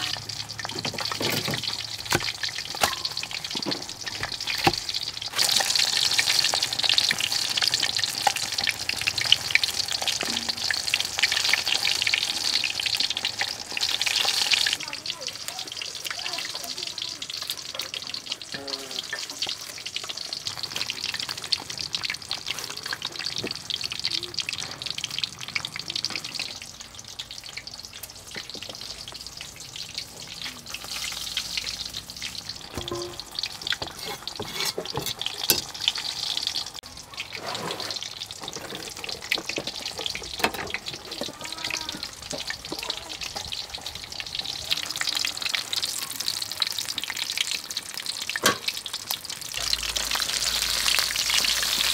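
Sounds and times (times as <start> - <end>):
fish sizzling in hot oil: 0.0 - 51.9.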